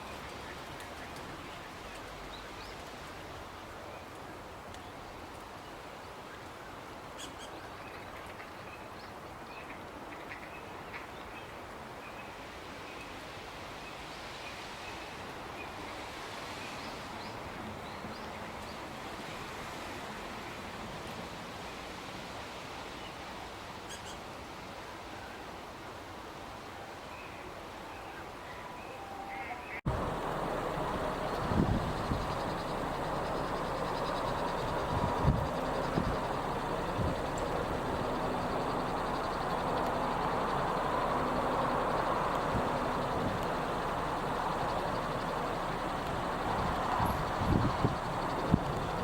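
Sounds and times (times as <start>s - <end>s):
outdoor ambient noise: 0.0s - 49.0s.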